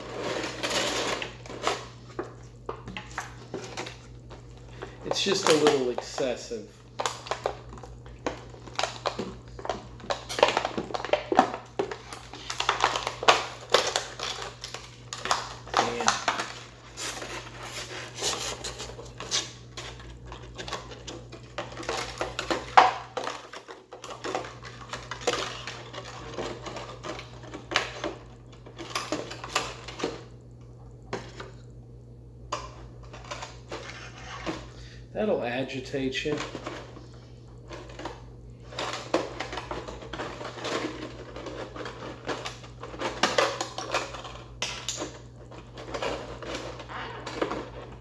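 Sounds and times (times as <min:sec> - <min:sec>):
plastic and cardboard packaging rustling: 0:00.0 - 0:31.6, 0:32.7 - 0:34.9, 0:35.8 - 0:48.0.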